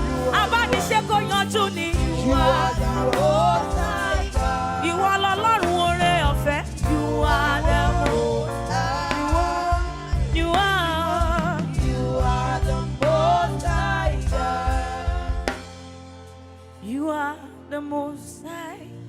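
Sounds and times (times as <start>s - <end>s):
drum kit: 0.0s - 16.7s
bass: 0.0s - 19.0s.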